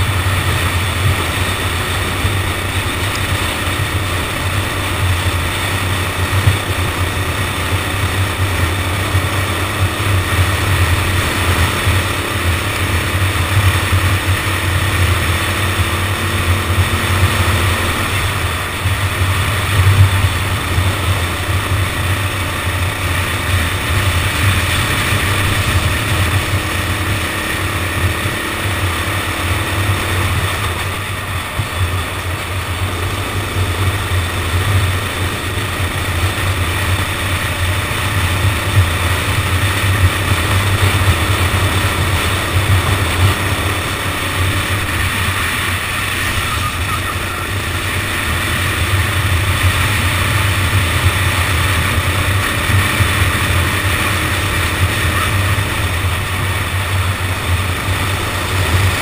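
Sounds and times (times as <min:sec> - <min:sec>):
go-kart engine running: 0:00.0 - 0:59.0
rushing wind noise: 0:00.0 - 0:59.0.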